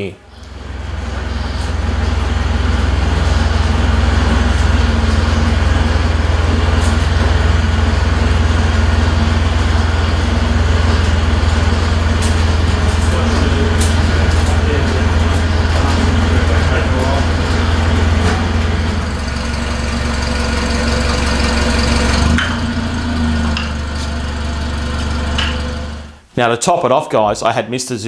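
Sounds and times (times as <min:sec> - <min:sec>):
forklift engine humming: 0:00.3 - 0:26.3.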